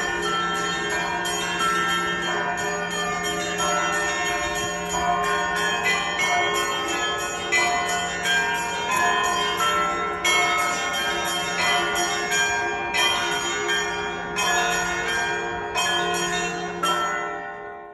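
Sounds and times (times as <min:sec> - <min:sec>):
large bell humming: 0:00.0 - 0:17.9
small bells struck in pattern: 0:00.0 - 0:17.9.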